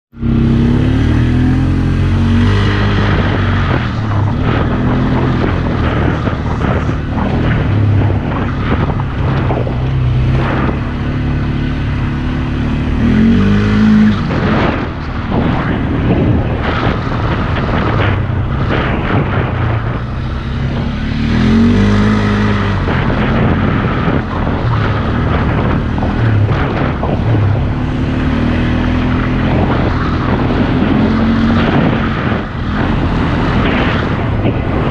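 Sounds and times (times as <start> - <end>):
atv engine revving: 0.2 - 34.9.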